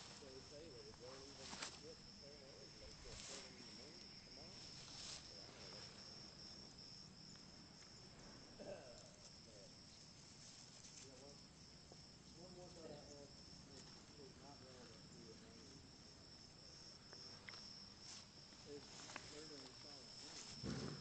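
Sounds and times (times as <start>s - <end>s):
crickets trilling: 0.0s - 21.0s
grass rustling: 0.0s - 21.0s.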